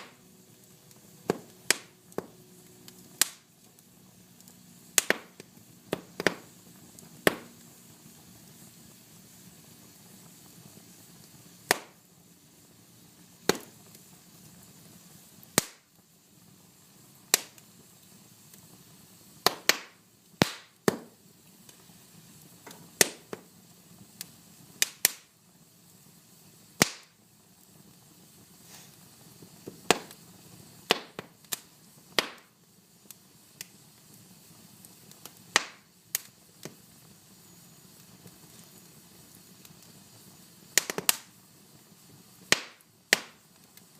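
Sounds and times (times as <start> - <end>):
fire crackles and pops: 0.0 - 43.9
wood fire hissing: 0.0 - 43.9.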